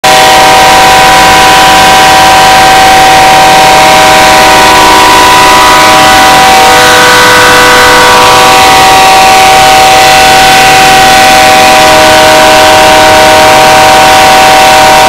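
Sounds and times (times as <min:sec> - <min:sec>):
locomotive air horn blowing: 0:00.0 - 0:15.0.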